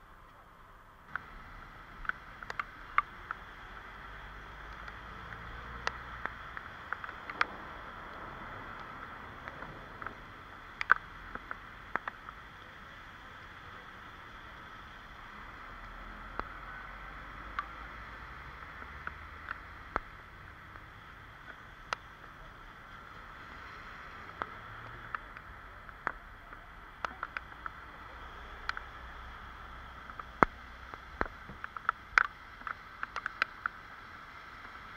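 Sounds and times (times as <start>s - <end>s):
rain hiss on wet street: 0.0s - 34.9s
raindrops ticking near microphone: 0.0s - 34.9s
faint passing traffic rumble: 0.8s - 34.9s.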